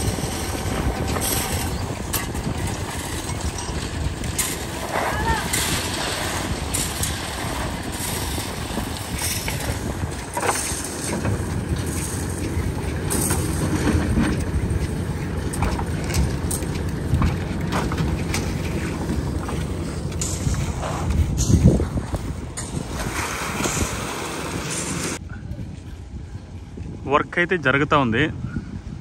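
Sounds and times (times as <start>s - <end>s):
knocks and clatter: 0.0s - 24.0s
construction machinery engine rumbling: 0.0s - 29.0s.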